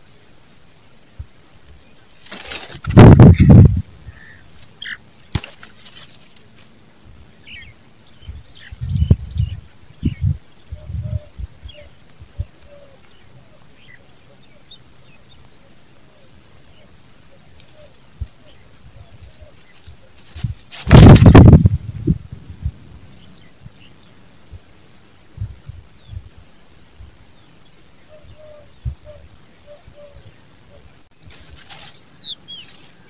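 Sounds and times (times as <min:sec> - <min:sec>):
nestlings chirping: 0:00.0 - 0:33.0.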